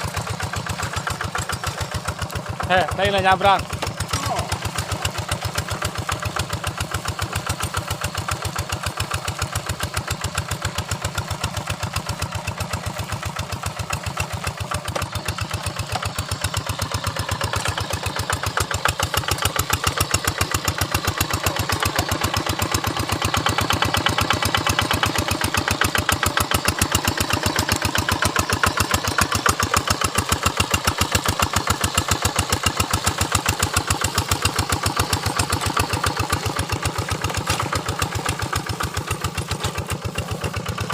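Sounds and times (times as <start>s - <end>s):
hand tractor engine chugging: 0.0s - 40.9s.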